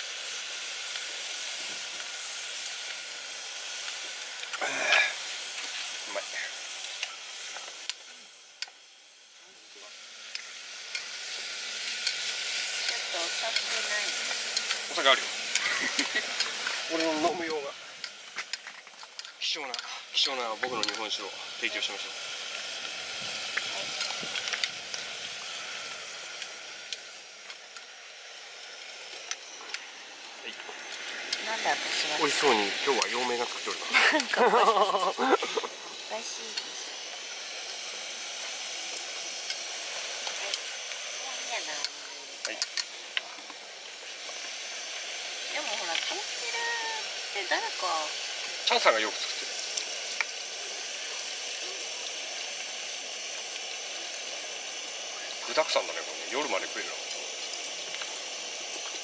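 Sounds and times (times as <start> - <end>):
gas stove burner hissing: 0.0 - 59.0.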